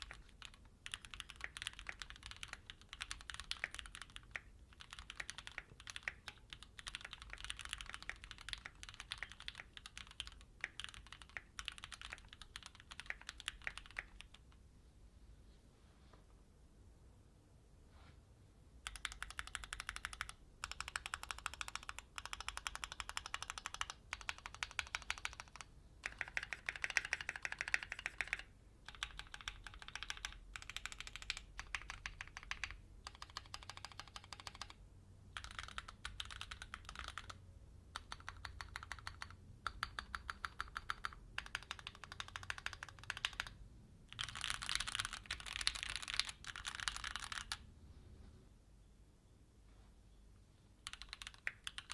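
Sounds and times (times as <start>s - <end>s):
mechanical keyboard typing: 0.0s - 14.6s, 18.8s - 47.6s, 50.8s - 51.9s.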